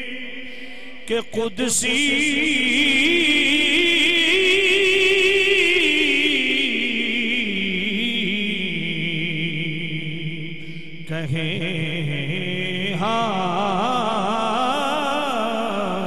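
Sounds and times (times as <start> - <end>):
man singing through microphone: 0.0 - 10.4, 11.0 - 16.0.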